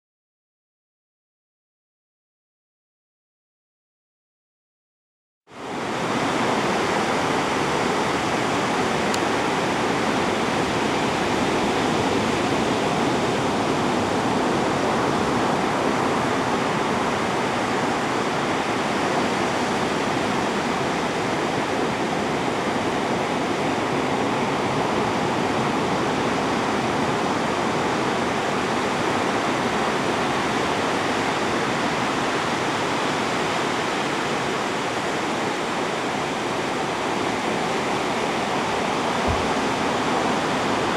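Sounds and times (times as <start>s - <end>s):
ocean surf breaking on beach: 5.6s - 40.9s.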